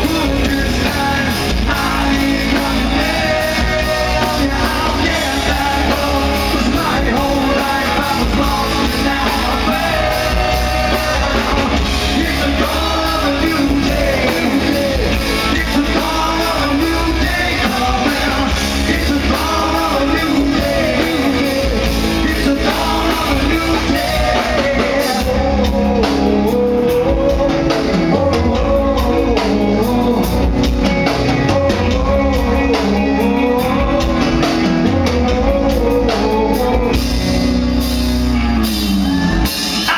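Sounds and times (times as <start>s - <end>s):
man singing into microphone: 0.0s - 37.4s
drums: 0.0s - 39.9s
electric guitars: 0.0s - 39.9s.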